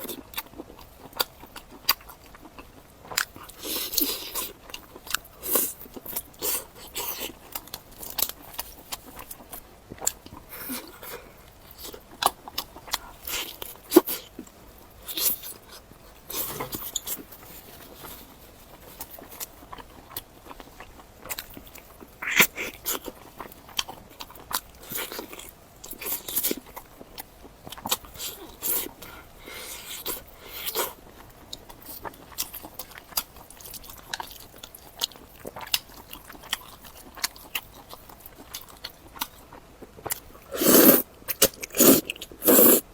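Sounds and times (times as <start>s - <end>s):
food crunching: 0.0s - 42.9s
person chewing food: 0.0s - 42.9s.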